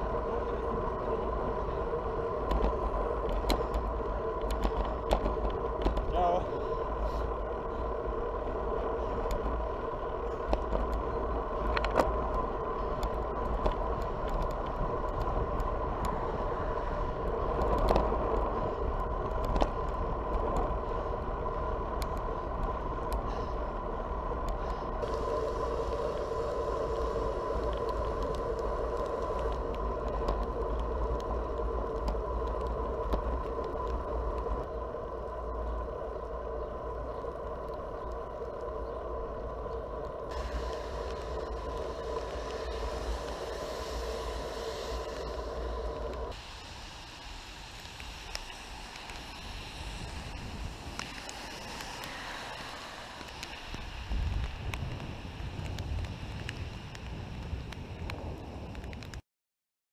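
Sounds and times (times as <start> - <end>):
tyres rolling on asphalt: 0.0 - 59.2
wind rumble on microphone: 0.0 - 59.2.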